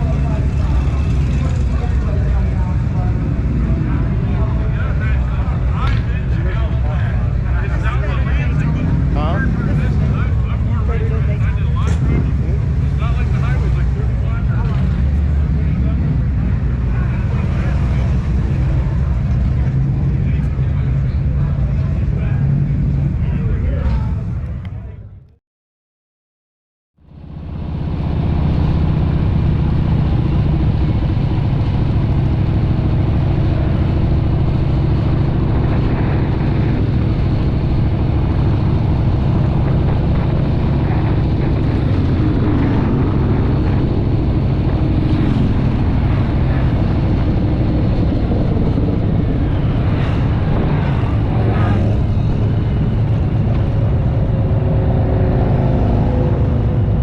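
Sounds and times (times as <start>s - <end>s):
road noise: 0.0s - 25.4s, 27.0s - 57.0s
vehicle engine droning: 0.0s - 25.4s, 27.0s - 57.0s.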